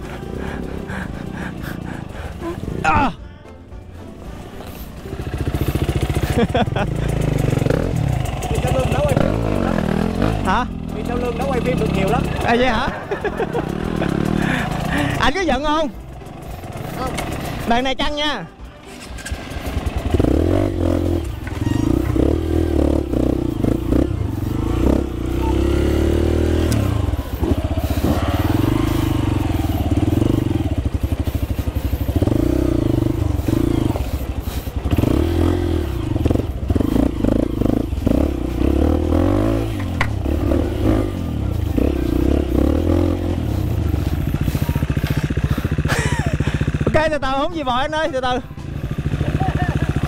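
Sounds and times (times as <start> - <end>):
dirt bike engine revving: 5.0 - 17.9, 18.9 - 47.4, 48.6 - 50.0.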